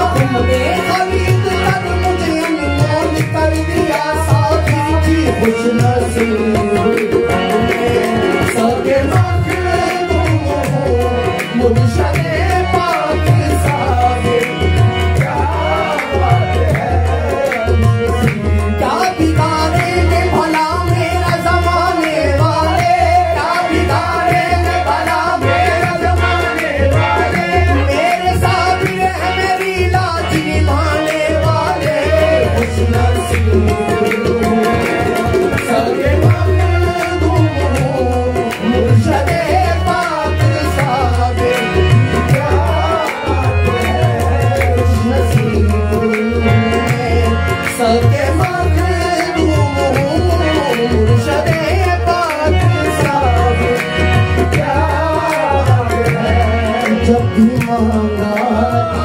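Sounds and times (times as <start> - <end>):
tabla: 0.0 - 59.0.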